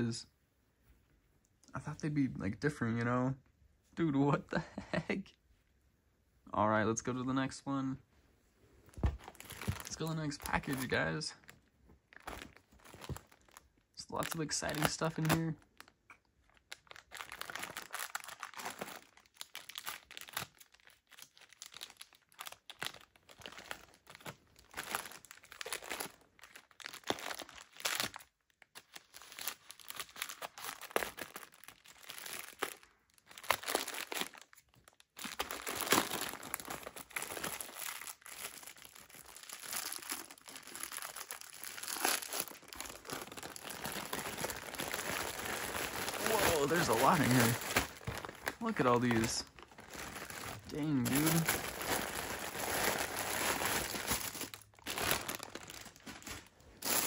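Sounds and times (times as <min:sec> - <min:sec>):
plastic bag crinkling: 0:08.9 - 0:57.0.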